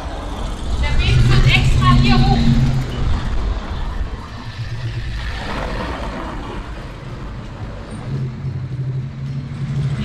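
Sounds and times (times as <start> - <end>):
traffic rumble: 0.0 - 10.0
vehicle passing: 0.0 - 10.0.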